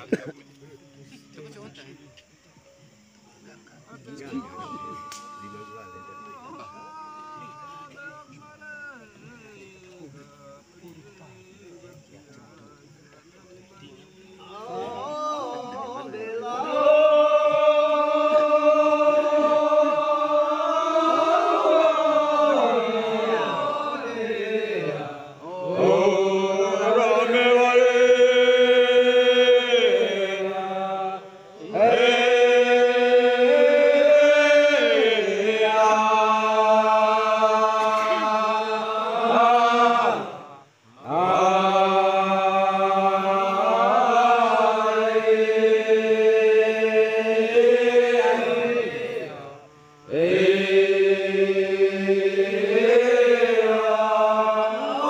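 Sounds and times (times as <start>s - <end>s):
men chanting a ritual song: 0.0s - 55.0s.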